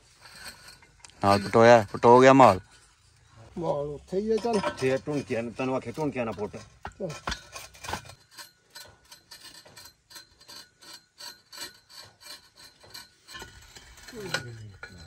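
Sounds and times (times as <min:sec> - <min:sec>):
drill pipe rasping scrape: 0:00.0 - 0:15.0.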